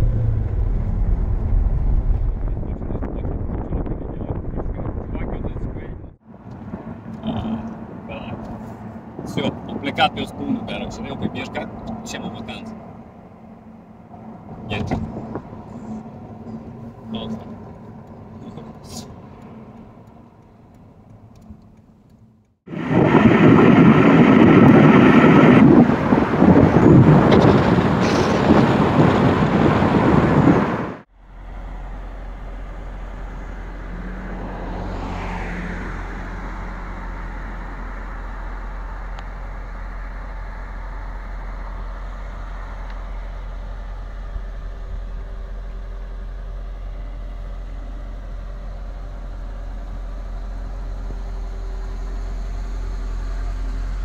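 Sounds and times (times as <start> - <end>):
car engine idling: 0.0 - 22.8, 31.0 - 54.0
wind and road noise: 0.0 - 54.0.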